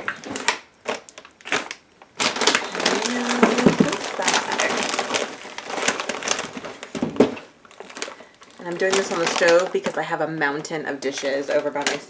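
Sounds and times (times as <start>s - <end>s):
items knocking in bag: 0.0s - 10.1s
packaging rustling and crinkling: 0.0s - 12.0s
plastic snack bag crackling: 0.0s - 12.0s.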